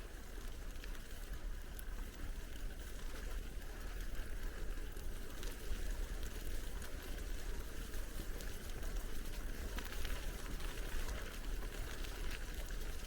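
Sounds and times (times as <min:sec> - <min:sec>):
small ticks: 0:00.0 - 0:13.0.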